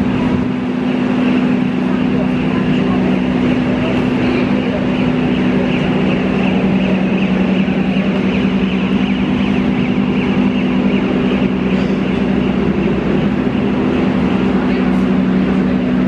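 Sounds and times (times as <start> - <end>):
diesel train engine idling: 0.0 - 16.0.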